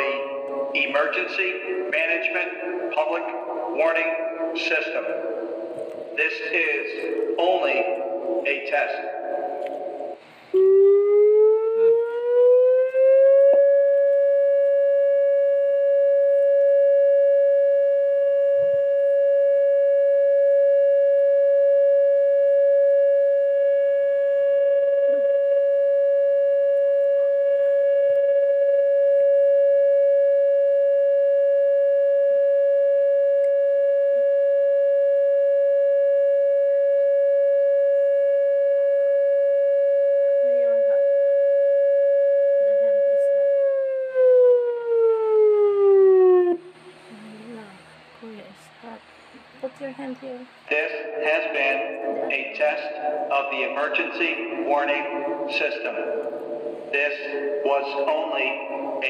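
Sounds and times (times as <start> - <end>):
electronic warning siren tone: 0.0 - 47.1, 50.7 - 59.0.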